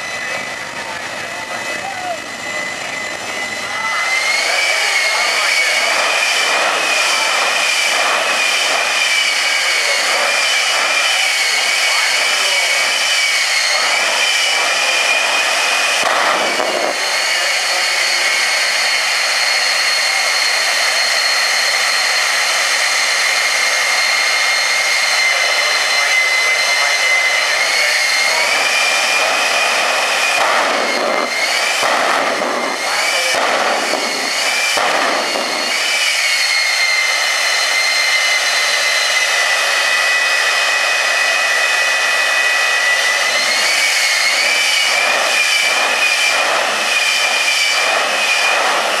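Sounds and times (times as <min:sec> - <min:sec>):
jet engine whine: 0:00.0 - 0:49.0.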